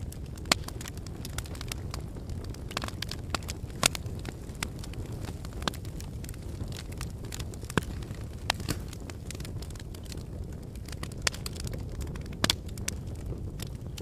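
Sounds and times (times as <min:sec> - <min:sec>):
low rumble of fire: 0:00.0 - 0:14.0
wood fire crackling and popping: 0:00.0 - 0:14.0.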